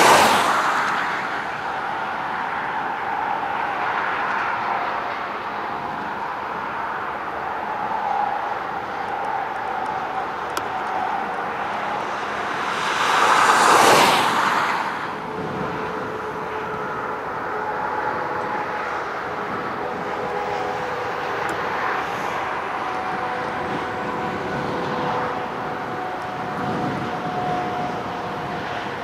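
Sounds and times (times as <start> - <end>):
distant jet engines rumbling: 0.0 - 29.0
strong wind noise: 0.0 - 29.0.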